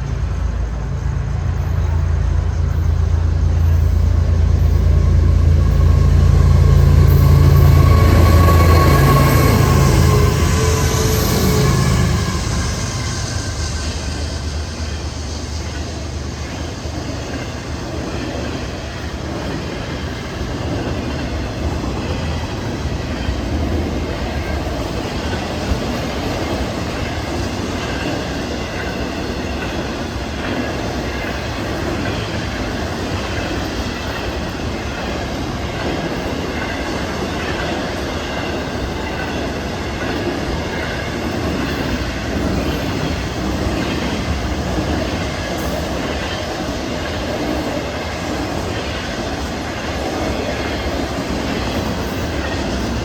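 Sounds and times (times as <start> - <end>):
freight train wheels clacking: 0.0 - 53.0.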